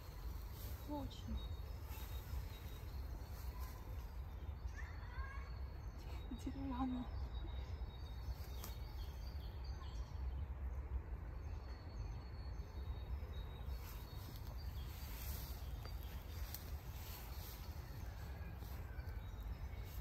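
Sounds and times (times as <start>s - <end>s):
distant bird chirps: 0.0s - 10.4s, 11.3s - 20.0s.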